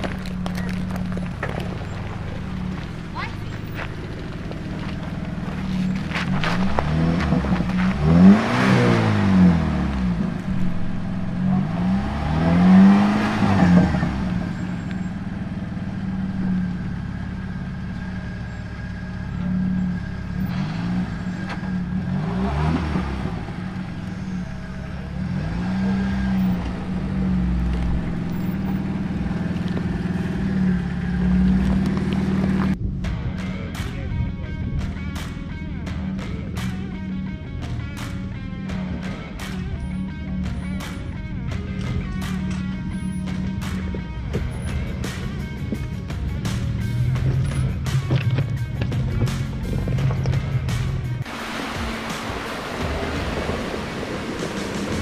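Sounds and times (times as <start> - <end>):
engines revving: 0.0 - 55.0.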